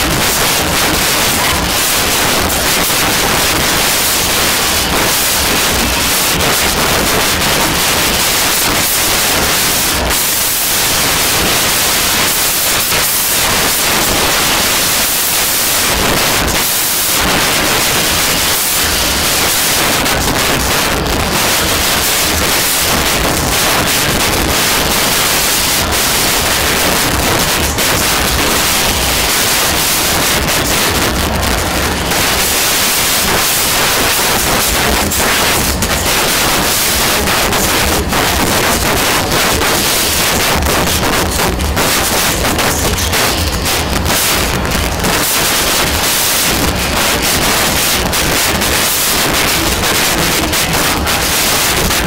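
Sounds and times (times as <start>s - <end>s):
loud static hiss: 0.0s - 52.0s.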